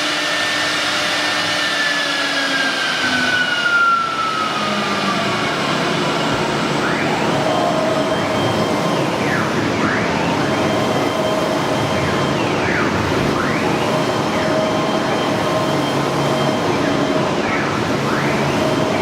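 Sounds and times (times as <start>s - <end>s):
loud machine noise: 0.0s - 19.0s
wood router spindle tone: 0.0s - 19.0s.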